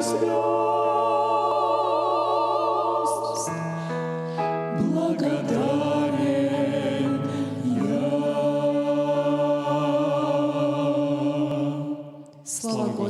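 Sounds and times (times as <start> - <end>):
choir holding a chord: 0.0 - 13.0.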